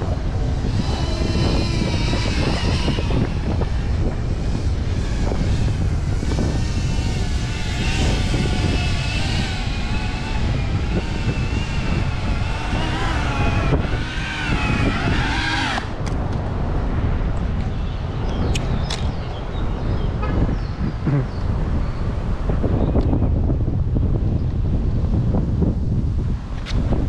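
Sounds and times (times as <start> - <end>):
quadcopter motors whining: 0.0 - 21.9
wind noise on microphone: 0.0 - 27.0.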